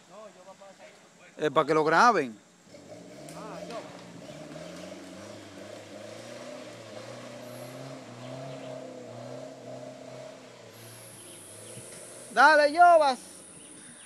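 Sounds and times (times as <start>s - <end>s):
engine running under load: 2.7s - 14.0s.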